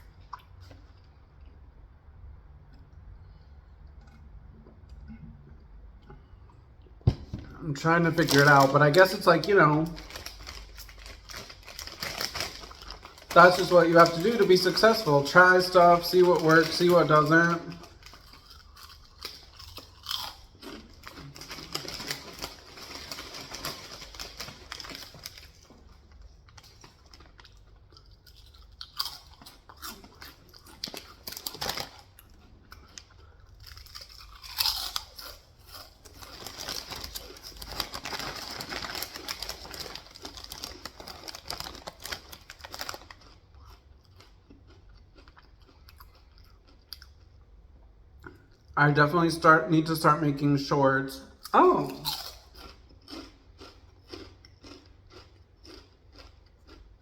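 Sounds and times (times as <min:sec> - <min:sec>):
chewing and crunching pizza: 0:00.0 - 0:49.3, 0:51.2 - 0:57.0.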